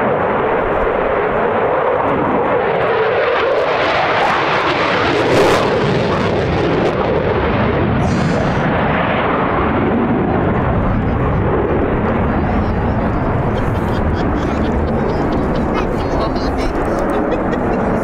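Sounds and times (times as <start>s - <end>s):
fighter jet engines roaring: 0.0s - 18.0s.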